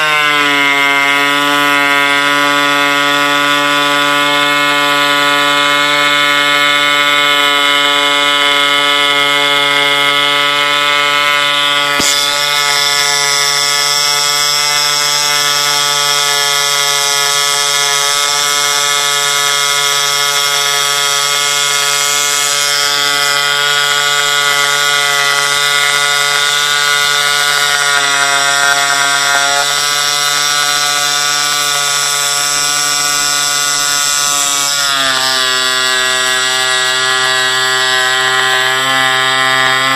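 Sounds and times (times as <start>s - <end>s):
needle cutter machine buzzing: 0.0s - 39.9s.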